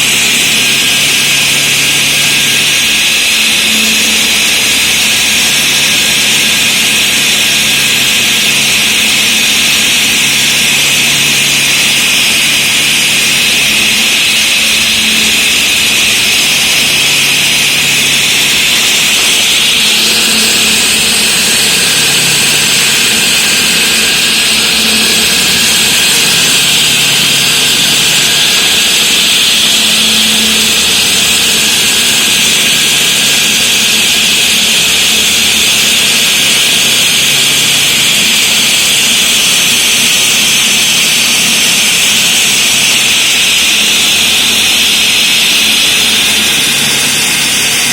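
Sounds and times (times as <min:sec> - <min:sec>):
saw grinding through concrete: 0:00.0 - 0:47.9.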